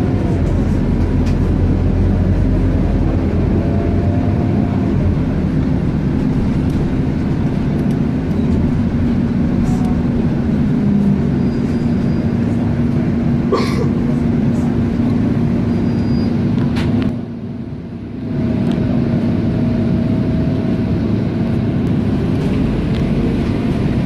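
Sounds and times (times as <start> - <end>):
bus engine drone: 0.0 - 24.0
road noise: 0.0 - 24.0.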